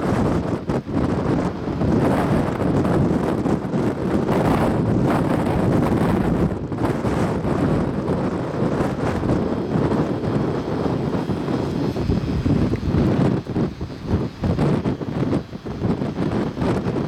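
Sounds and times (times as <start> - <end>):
blizzard wind gusting: 0.0 - 17.0
wind buffeting microphone: 0.0 - 17.0.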